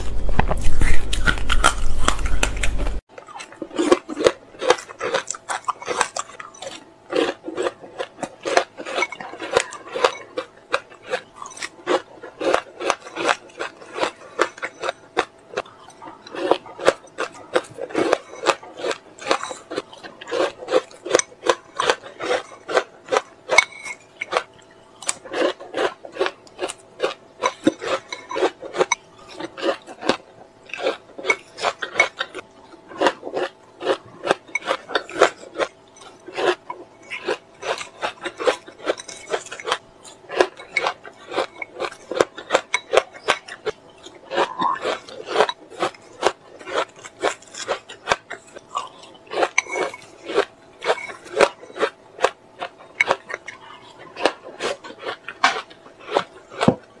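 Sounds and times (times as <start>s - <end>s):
ice cubes crunched by teeth: 0.3s - 57.0s.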